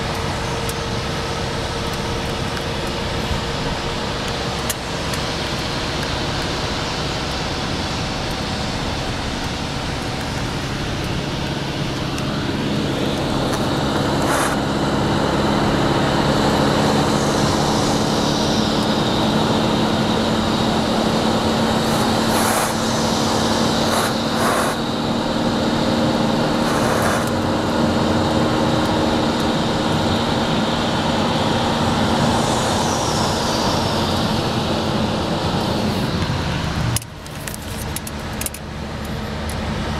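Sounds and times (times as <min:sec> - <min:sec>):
low engine hum: 0:00.0 - 0:39.9
wind and road noise in car: 0:00.0 - 0:39.9.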